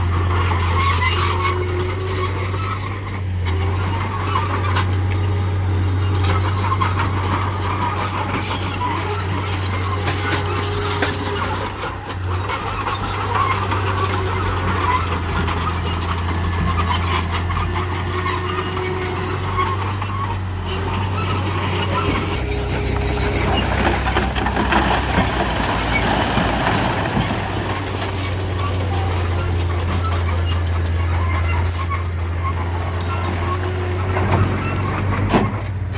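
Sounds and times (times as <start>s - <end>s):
heavy diesel machinery drone: 0.0s - 35.9s
high-pitched squeaks: 0.0s - 35.9s.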